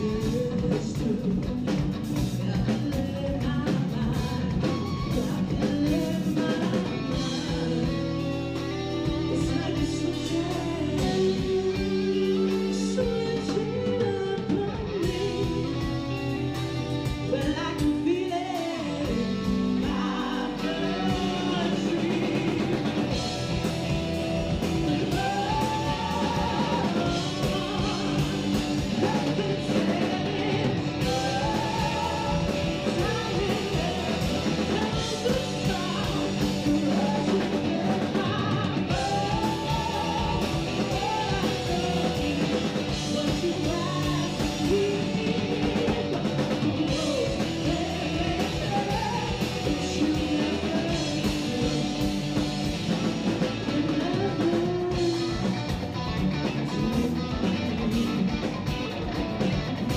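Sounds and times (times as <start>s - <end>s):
woman singing: 0.0s - 16.3s, 17.1s - 55.5s
drum kit beat: 0.0s - 59.9s
electric bass: 0.0s - 59.9s
electric guitar: 0.0s - 59.9s.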